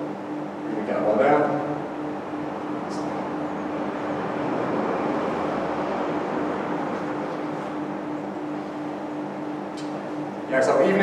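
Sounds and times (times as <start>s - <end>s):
constant low hum: 0.0s - 11.0s
steady rushing noise: 1.5s - 11.0s.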